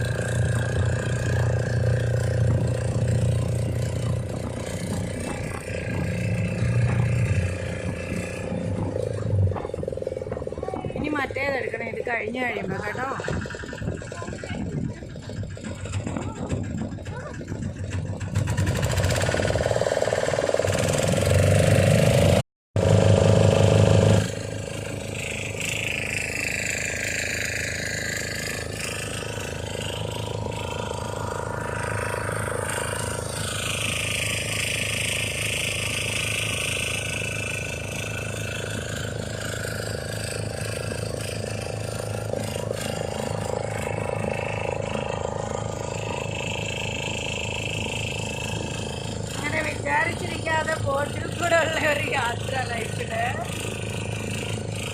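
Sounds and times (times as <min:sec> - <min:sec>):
motorboat engine running: 0:00.0 - 0:54.9.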